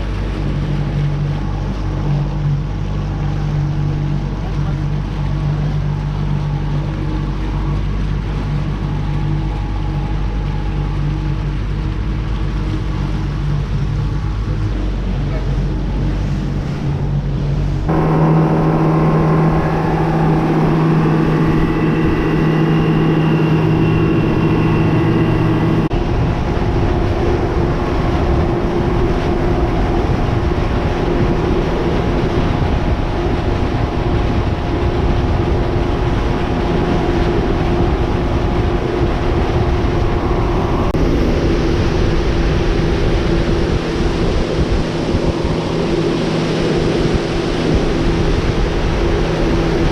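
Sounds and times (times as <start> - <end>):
motorboat engine running: 0.0 - 49.9
rushing wind and water: 0.0 - 49.9.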